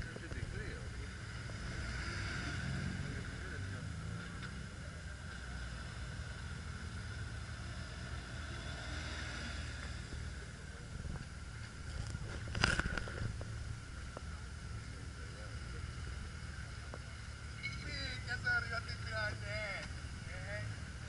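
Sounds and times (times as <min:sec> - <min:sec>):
car engine idling: 0:00.0 - 0:02.0, 0:03.0 - 0:21.0.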